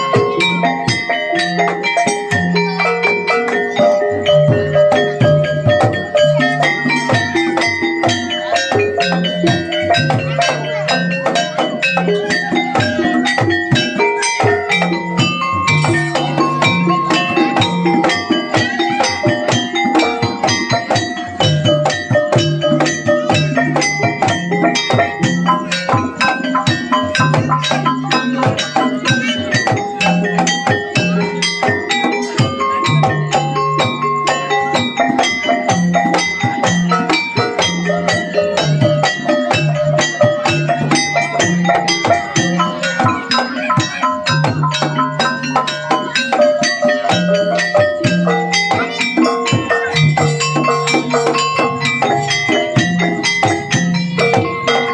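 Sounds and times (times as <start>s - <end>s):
struck metal gongs and metallophones: 0.0s - 54.9s.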